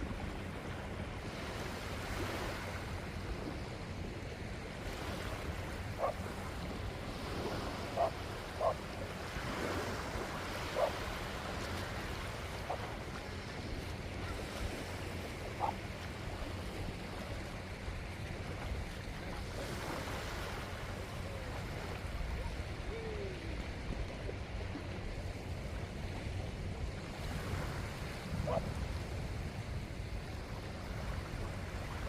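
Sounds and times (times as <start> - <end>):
waves washing on shore: 0.0 - 32.0
wind on microphone: 0.0 - 32.0.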